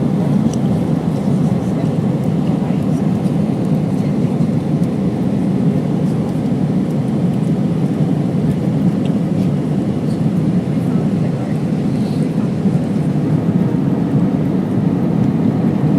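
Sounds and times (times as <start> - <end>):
airliner cabin engine rumble: 0.0 - 15.9.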